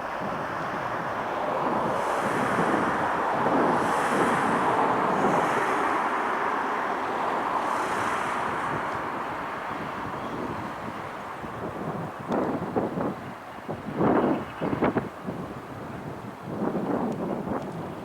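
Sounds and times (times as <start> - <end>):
jet engine noise: 0.0 - 18.0
wind on microphone: 0.0 - 18.0.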